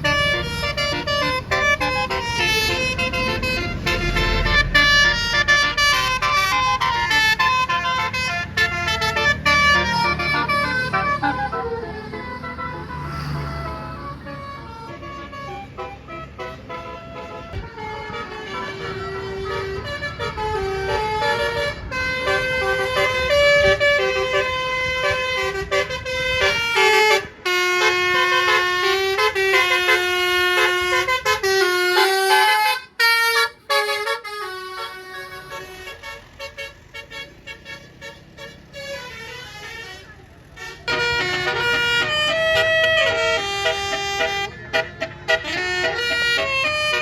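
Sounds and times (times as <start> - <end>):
low vehicle rumble: 0.0 - 47.0
musical bus horn playing a tune: 0.0 - 47.0.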